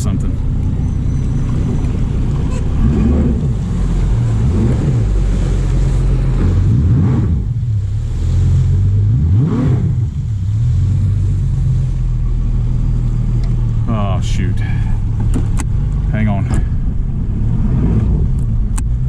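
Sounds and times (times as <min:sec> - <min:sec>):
outboard motor revving: 0:00.0 - 0:19.0.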